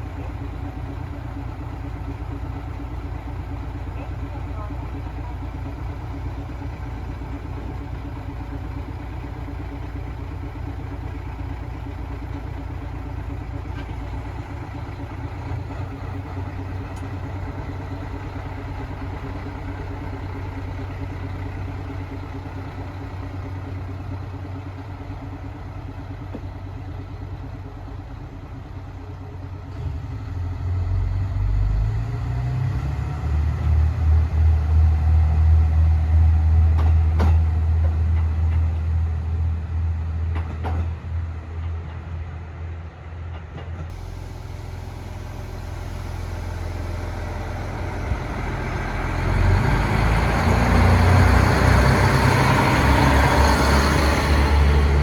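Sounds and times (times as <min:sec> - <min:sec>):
diesel railcar engine rumbling: 0:00.0 - 0:55.0.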